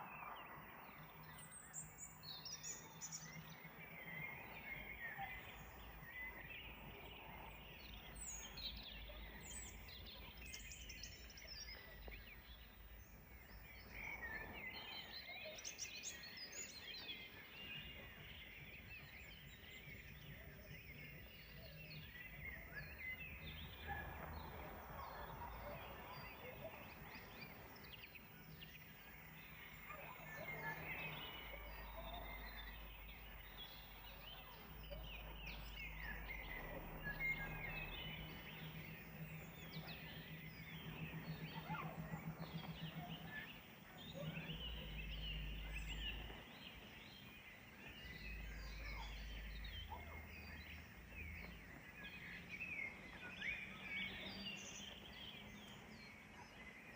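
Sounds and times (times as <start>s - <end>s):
birds chirping and whistling: 0.0s - 56.9s
low steady background noise: 0.0s - 56.9s.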